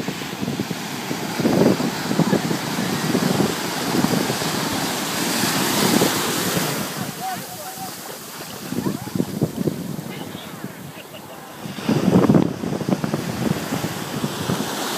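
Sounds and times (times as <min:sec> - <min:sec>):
small waves washing over sand: 0:00.0 - 0:14.9
wind buffeting microphone: 0:00.0 - 0:14.9.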